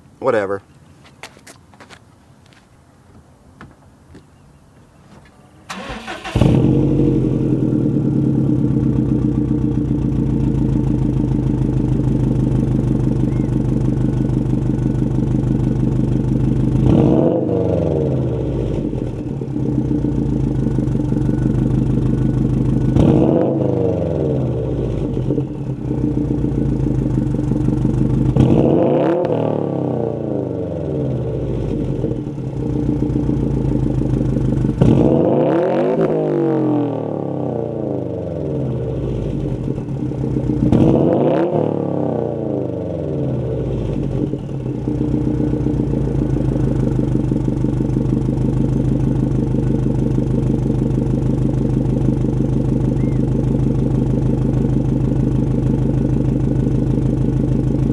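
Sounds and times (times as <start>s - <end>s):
car engine idling: 5.2s - 57.9s
car engine revving: 5.7s - 57.9s.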